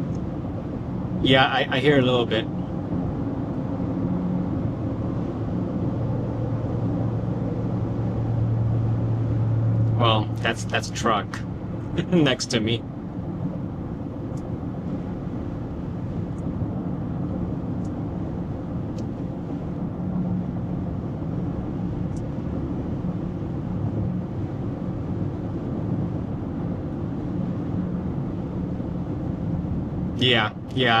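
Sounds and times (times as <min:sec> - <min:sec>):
road noise inside car cabin: 0:00.0 - 0:31.0.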